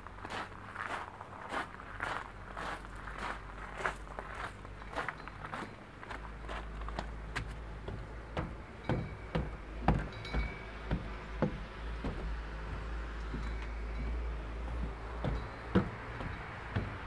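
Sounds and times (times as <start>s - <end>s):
footsteps on wooden stairs: 0.3s - 17.0s.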